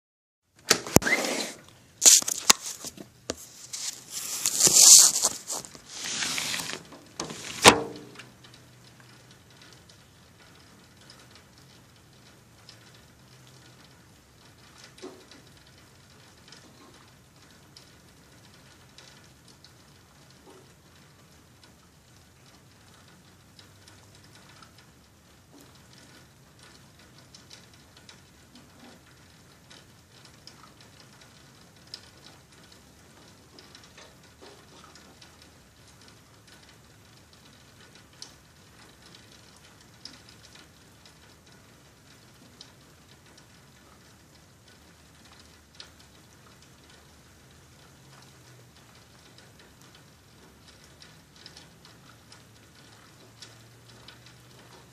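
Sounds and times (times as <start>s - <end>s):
soft rain hiss: 0.5s - 54.9s
raindrops ticking: 1.6s - 54.9s.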